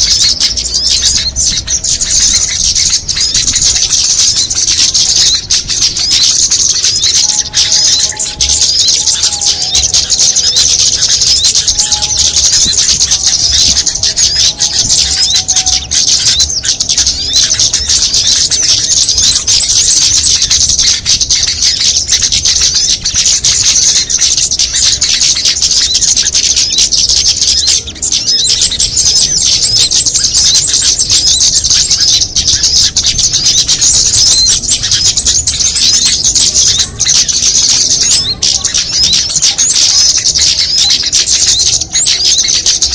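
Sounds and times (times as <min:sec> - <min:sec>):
songbirds chattering and twittering: 0:00.0 - 0:42.9.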